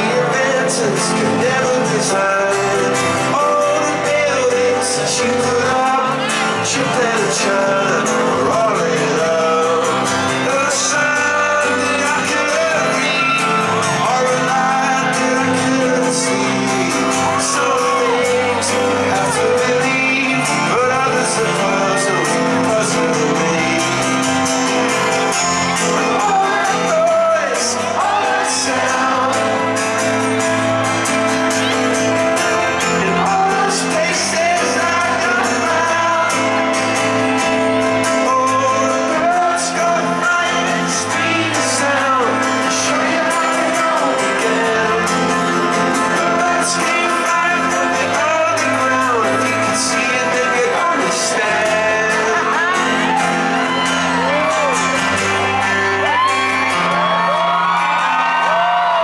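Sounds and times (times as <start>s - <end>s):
crowd shouting and whooping: 0.0s - 59.0s
live band playing pop-rock: 0.0s - 59.0s
person singing: 0.0s - 59.0s.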